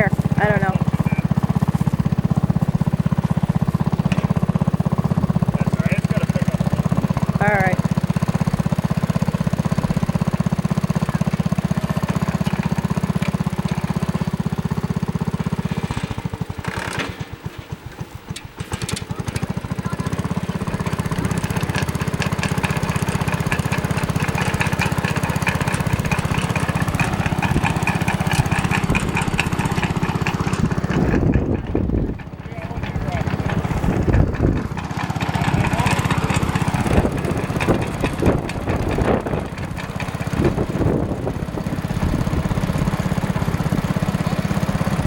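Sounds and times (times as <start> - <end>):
small tractor engine running: 0.0 - 45.0.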